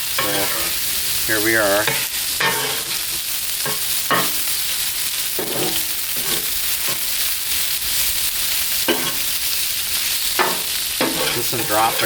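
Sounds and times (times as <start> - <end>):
meat sizzling on a griddle: 0.0 - 12.0.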